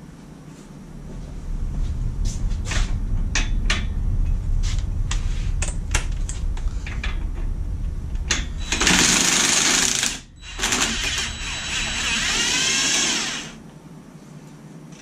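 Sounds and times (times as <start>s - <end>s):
low rumble: 0.0s - 14.3s.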